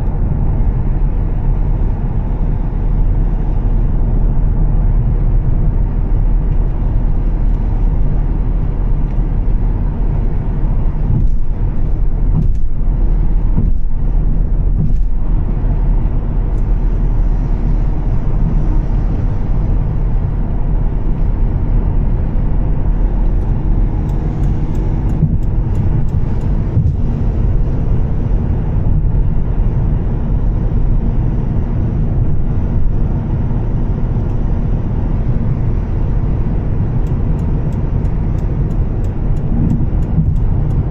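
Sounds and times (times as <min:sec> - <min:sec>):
car engine and exhaust drone: 0:00.0 - 0:40.9.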